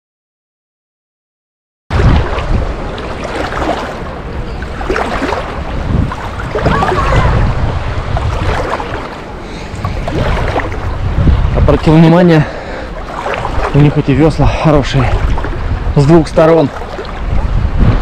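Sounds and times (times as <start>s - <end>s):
water sloshing and splashing: 1.9s - 18.0s
wind buffeting microphone: 1.9s - 18.0s.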